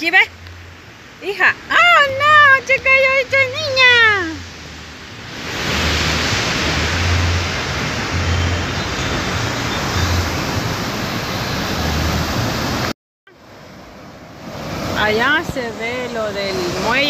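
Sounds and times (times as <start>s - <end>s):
surf rushing: 0.6s - 17.0s.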